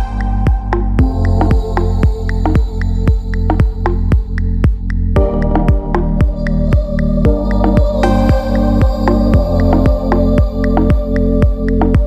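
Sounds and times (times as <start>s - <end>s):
electronic music with kick drums: 0.0s - 12.0s.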